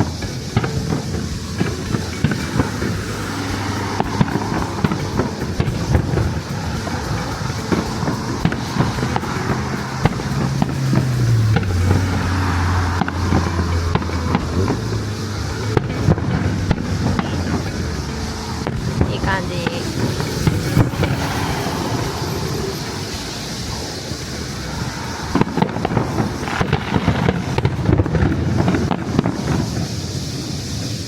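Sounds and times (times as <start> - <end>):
fireworks bangs and crackles: 0.0 - 31.0
low steady drone: 0.0 - 31.0.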